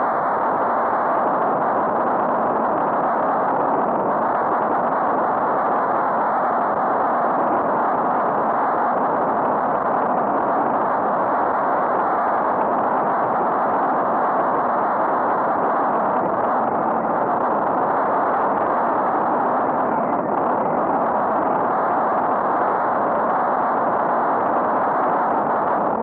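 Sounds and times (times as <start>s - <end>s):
wind rushing on microphone: 0.0s - 26.0s.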